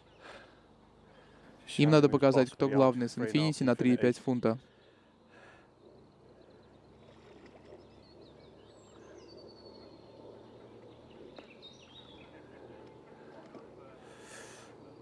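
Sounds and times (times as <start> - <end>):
bird calls: 0.0 - 1.9, 4.4 - 15.0.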